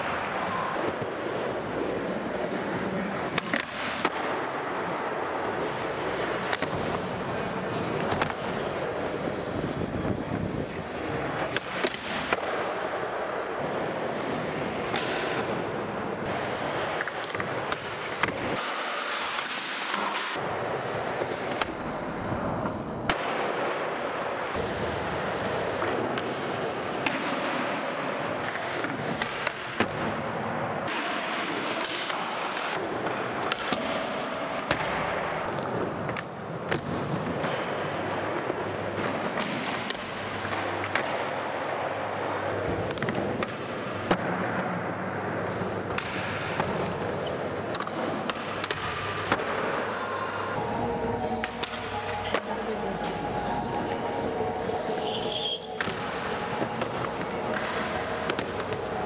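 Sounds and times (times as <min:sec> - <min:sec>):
skateboard wheels rolling: 0:00.0 - 0:52.5, 0:53.6 - 0:59.0.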